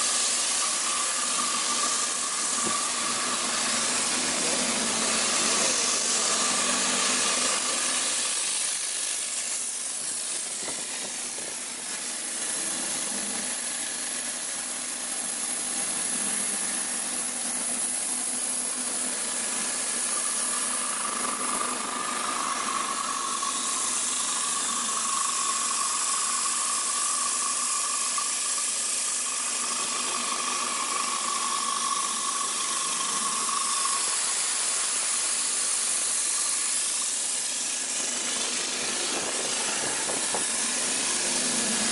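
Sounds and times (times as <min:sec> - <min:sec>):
boring mill machine hiss: 0:00.0 - 0:41.9
high machine whine: 0:00.0 - 0:41.9.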